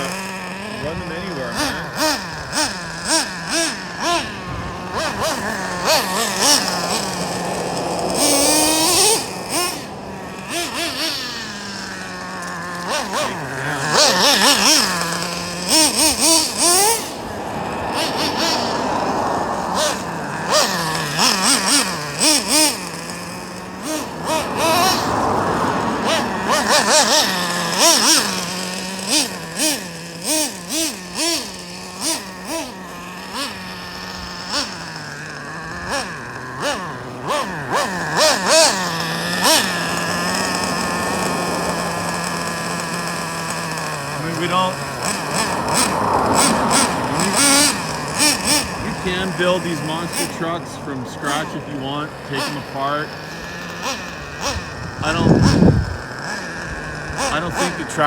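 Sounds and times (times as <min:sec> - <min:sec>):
rc truck nitro engine revving: 0:00.0 - 0:58.0.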